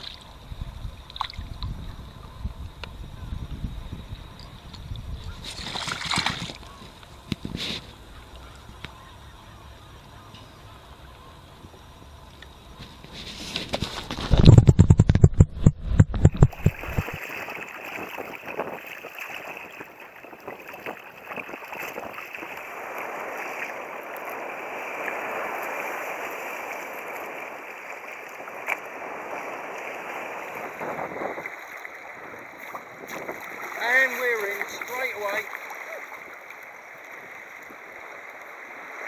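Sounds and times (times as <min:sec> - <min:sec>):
water rushing along kayak hull: 0:00.0 - 0:39.0.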